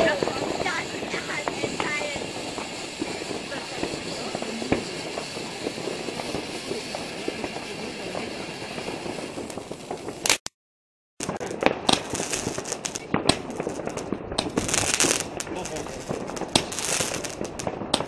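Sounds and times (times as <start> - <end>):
firework fountain hissing and crackling: 0.0 - 10.4, 11.2 - 18.0
firework cracks and pops: 0.0 - 10.5, 11.2 - 18.0.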